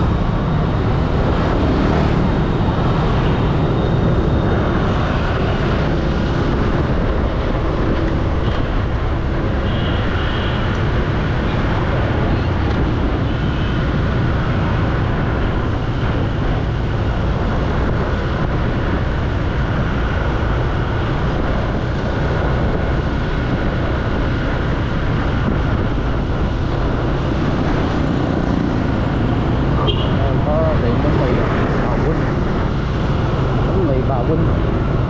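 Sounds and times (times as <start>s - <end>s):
road noise: 0.0s - 35.0s.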